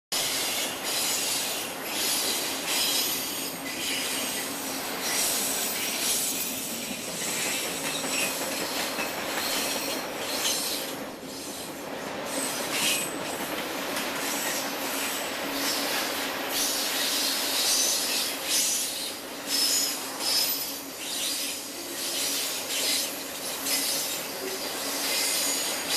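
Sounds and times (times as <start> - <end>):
continuous rail noise: 0.1 - 25.9
train wheels squealing: 0.2 - 25.9.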